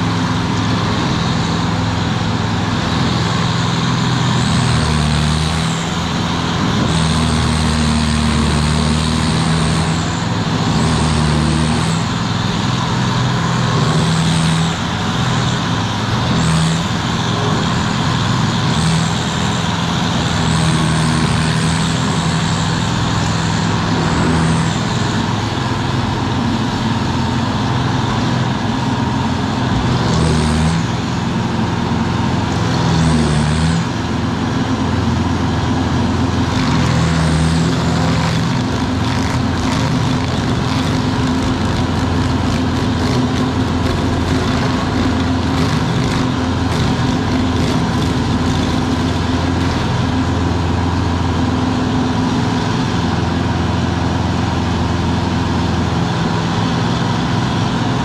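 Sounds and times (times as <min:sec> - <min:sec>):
cutter wheel grinding wood: 0:00.0 - 0:58.0
stump grinder engine: 0:00.0 - 0:58.0.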